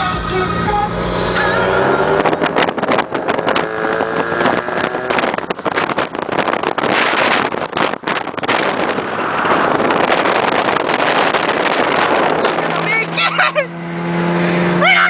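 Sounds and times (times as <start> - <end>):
car engine running: 0.0 - 15.0
wind buffeting microphone: 0.8 - 14.8.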